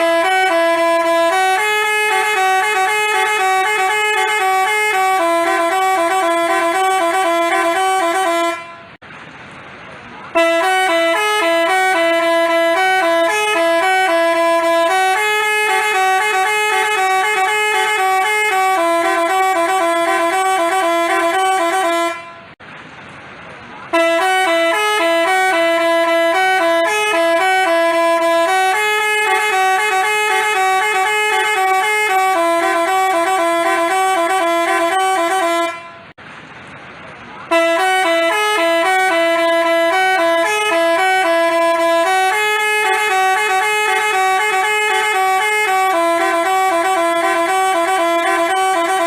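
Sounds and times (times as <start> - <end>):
bus horn melody: 0.0 - 9.0, 10.3 - 22.6, 23.9 - 36.2, 37.4 - 49.0.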